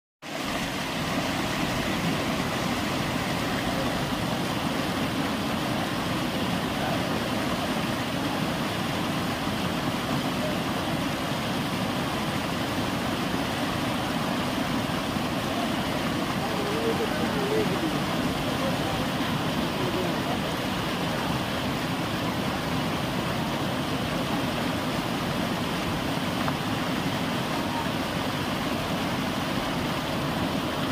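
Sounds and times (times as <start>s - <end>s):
river rushing over rocks: 0.2s - 30.9s.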